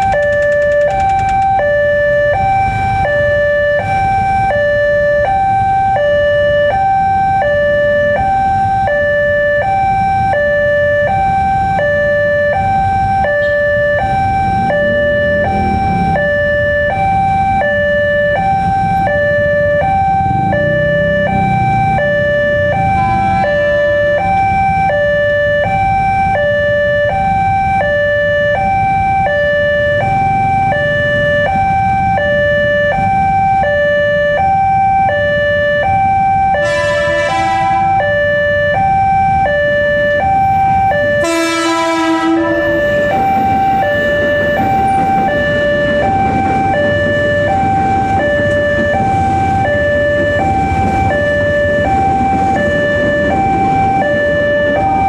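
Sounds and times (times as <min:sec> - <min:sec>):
level crossing alarm two tones: 0:00.0 - 0:55.0
road traffic rumble: 0:00.0 - 0:55.0.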